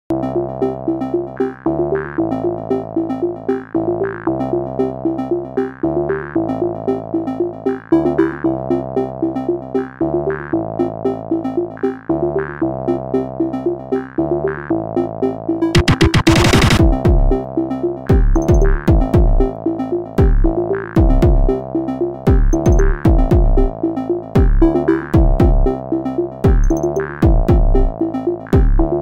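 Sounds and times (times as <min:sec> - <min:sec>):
electronic synthesizer music: 0:00.1 - 0:29.0.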